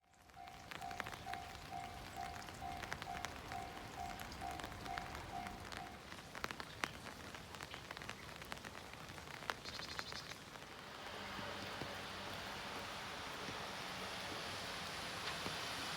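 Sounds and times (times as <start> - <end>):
rain falling: 0.0 - 15.9.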